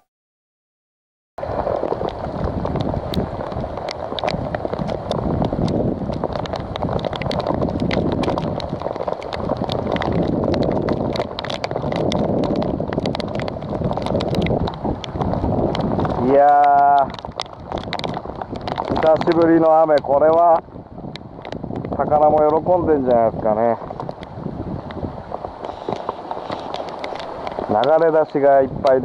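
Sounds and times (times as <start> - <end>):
heavy rain on a lake: 1.4 - 29.0
raindrop taps: 1.4 - 29.0.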